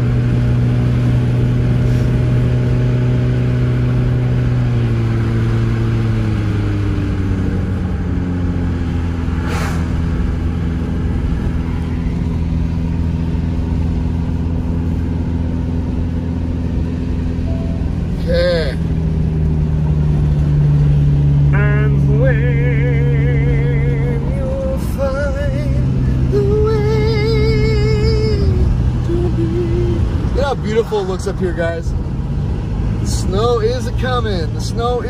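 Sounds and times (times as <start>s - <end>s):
car engine hum: 0.0s - 35.0s.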